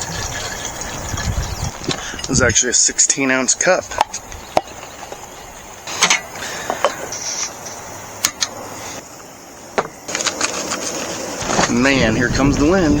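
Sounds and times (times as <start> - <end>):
steady hiss: 1.8 - 13.0.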